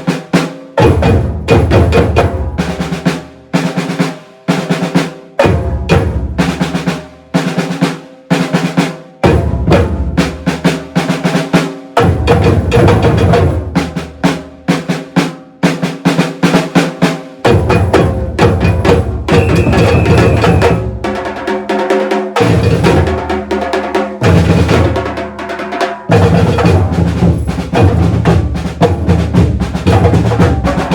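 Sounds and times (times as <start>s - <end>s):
drum ensemble playing: 0.0s - 30.9s
rattling snare drums: 0.0s - 30.9s.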